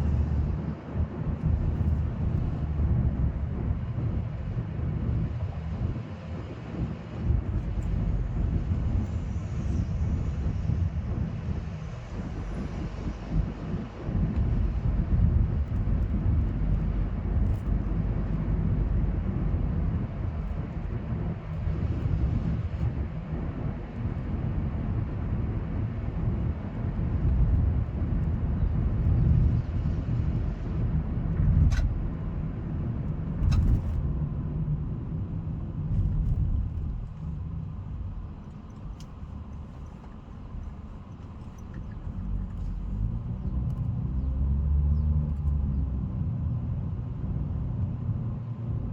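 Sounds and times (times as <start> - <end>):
car cabin rumble of tyres and engine: 0.0 - 48.9.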